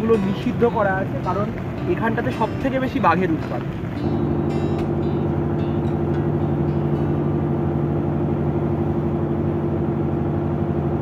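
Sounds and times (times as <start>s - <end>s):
motorboat engine drone: 0.0s - 11.0s.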